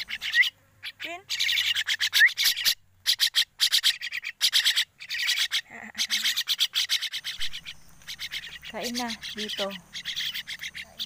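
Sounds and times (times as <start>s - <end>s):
birds rasping begging calls: 0.0s - 11.0s.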